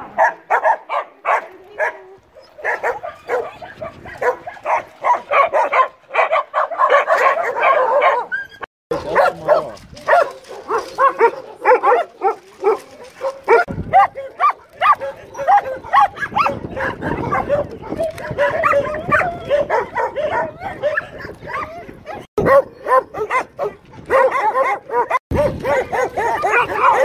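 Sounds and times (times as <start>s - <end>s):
dogs barking and yipping: 0.0s - 27.0s.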